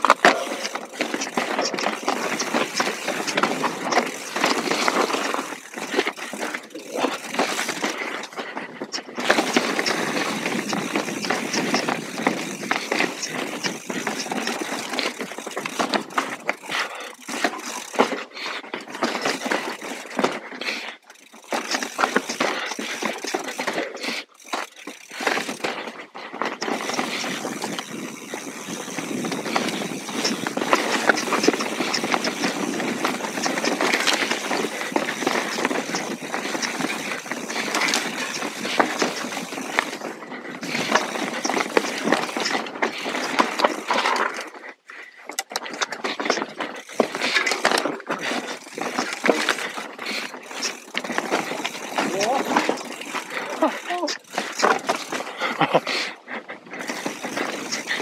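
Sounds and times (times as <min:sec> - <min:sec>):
bike rattling and knocking: 0:00.0 - 0:58.0
bike tyres on stones: 0:00.0 - 0:58.0.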